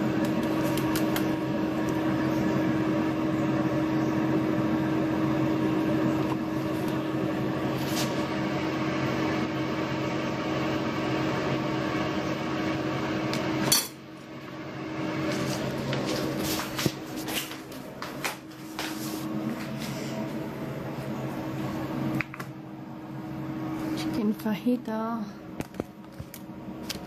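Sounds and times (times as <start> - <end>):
kitchen appliance humming: 0.0 - 27.0.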